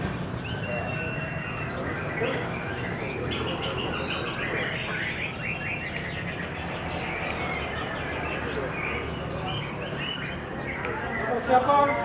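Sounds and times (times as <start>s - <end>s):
sunbirds singing: 0.0s - 12.0s.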